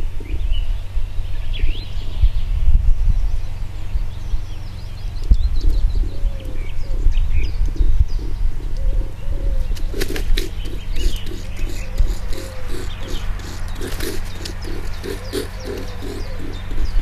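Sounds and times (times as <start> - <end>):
loud low rumble: 0.0 - 17.0
low repeated bird call: 0.0 - 17.0
small birds chirping: 0.0 - 17.0.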